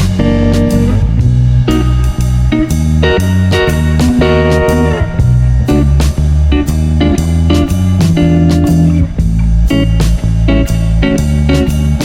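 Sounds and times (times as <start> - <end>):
guitar music with heavy bass: 0.0 - 12.0.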